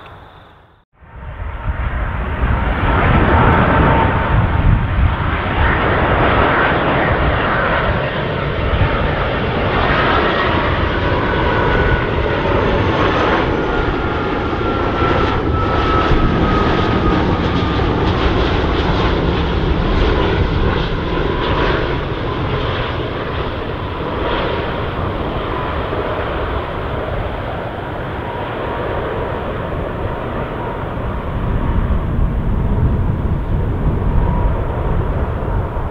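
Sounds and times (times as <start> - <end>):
jet airliner passing by: 0.0 - 35.9.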